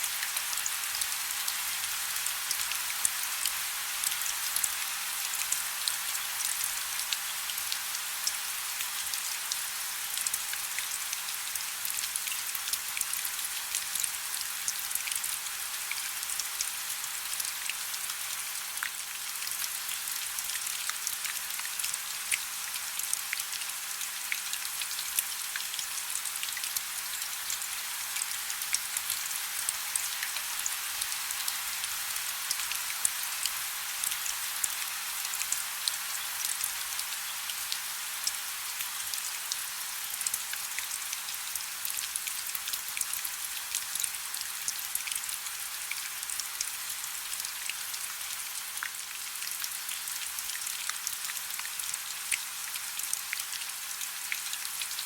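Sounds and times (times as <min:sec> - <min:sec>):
soft rain hiss: 0:00.0 - 0:55.0.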